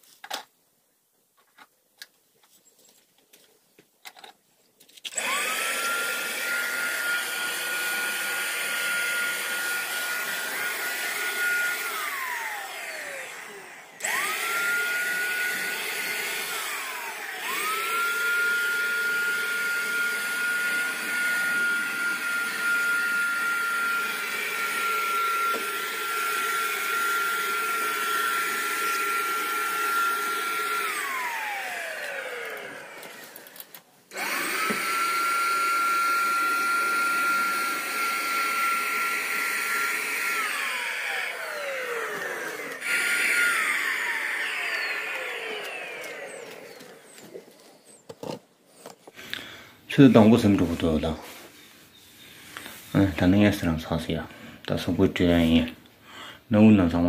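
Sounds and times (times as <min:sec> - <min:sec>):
power tool motor whining: 0:05.1 - 0:51.0.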